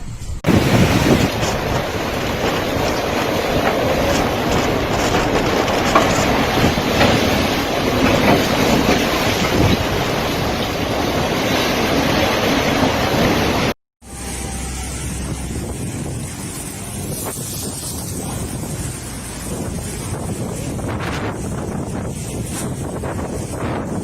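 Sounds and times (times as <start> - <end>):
strong storm wind: 0.0 - 24.0.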